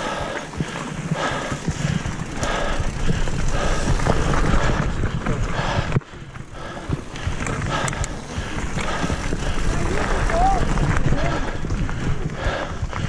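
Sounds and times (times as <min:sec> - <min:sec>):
bike rattling over rough trail: 0:00.0 - 0:13.0.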